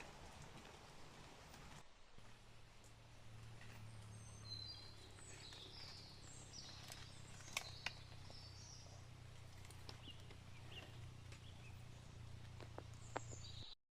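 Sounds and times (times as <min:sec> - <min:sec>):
low steady hum: 0:00.0 - 0:13.7
birds chirping: 0:00.0 - 0:13.8.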